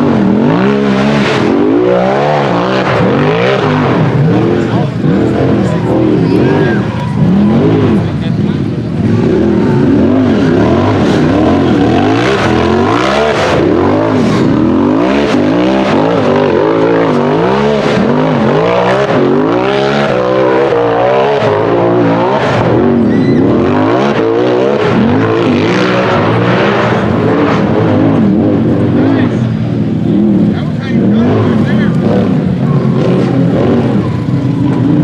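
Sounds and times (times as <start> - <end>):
utility vehicle engine revving: 0.0 - 35.0.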